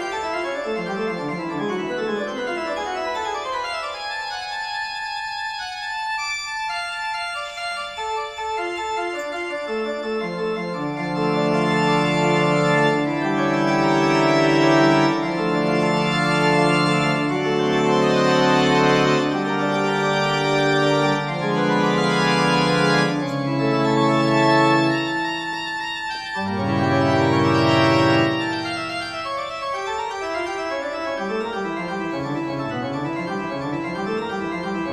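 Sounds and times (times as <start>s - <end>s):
organ chords: 0.0s - 34.9s.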